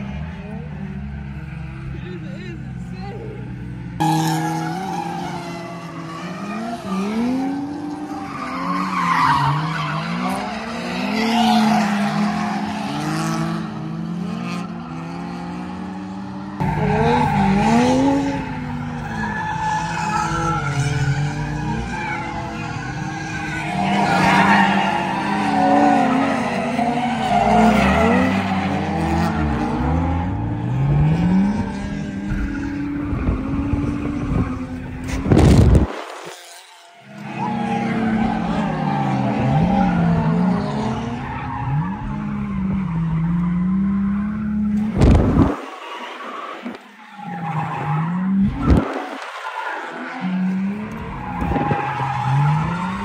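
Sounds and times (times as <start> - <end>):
car engines revving: 0.0 - 53.0
tires skidding and screeching: 0.0 - 53.0.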